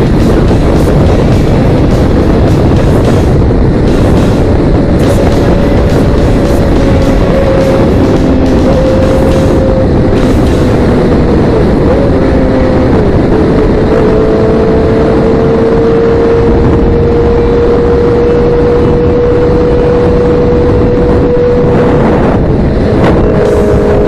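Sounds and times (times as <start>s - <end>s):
motorcycle engine cruising: 0.0s - 24.0s
wind rush on microphone: 0.0s - 24.0s.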